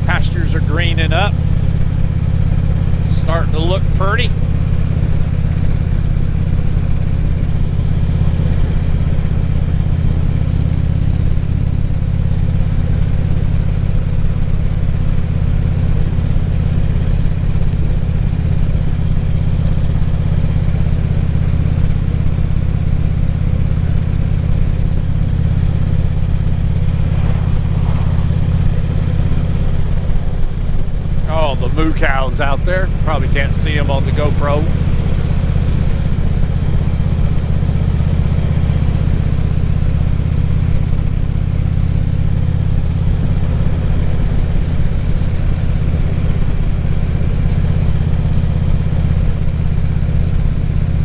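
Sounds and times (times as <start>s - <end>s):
motorcycle engine cruising: 0.0s - 51.0s.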